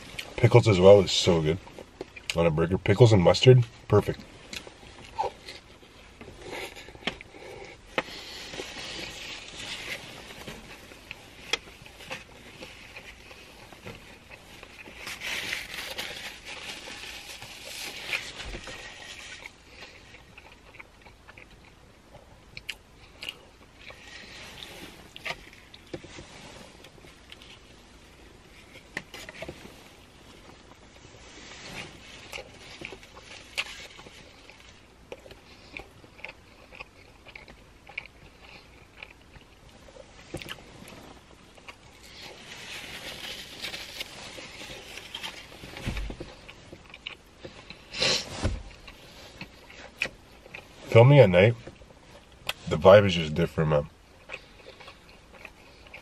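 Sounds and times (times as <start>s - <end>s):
person chewing and biting: 4.5s - 51.0s, 54.0s - 56.0s.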